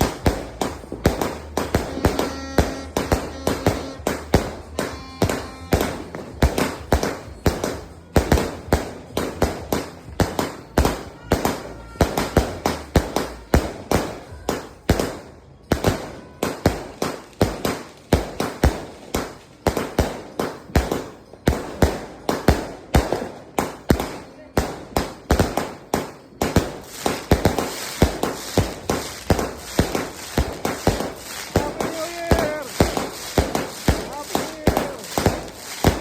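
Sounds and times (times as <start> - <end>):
fireworks firing sharp reports: 0.0 - 36.0.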